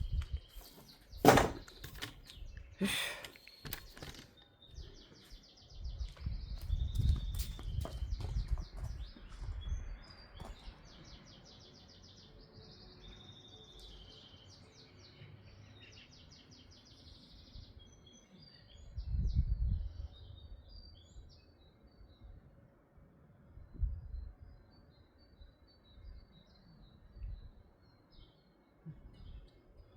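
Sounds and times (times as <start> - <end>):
songbirds trilling and chirping: 0.0 - 29.9.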